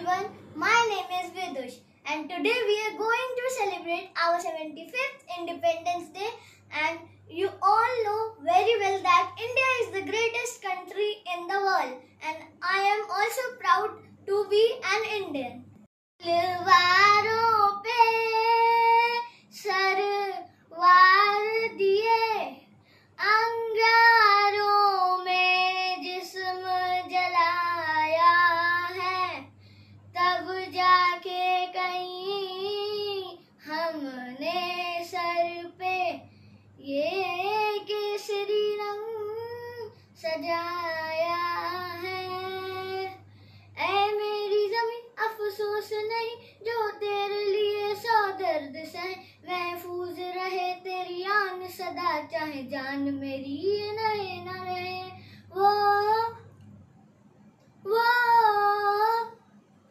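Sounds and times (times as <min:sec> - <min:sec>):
child singing unaccompanied: 0:00.0 - 0:56.5, 0:57.8 - 0:59.4.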